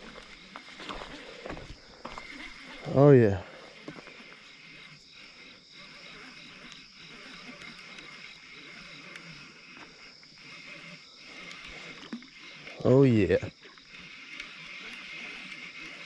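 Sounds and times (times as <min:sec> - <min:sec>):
crickets and insects chirping: 0:00.0 - 0:16.0.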